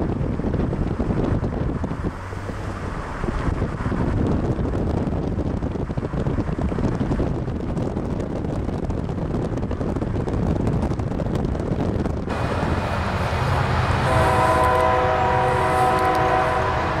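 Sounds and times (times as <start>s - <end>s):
freight train rolling on rails: 0.0s - 17.0s
wind buffeting microphone: 0.0s - 17.0s.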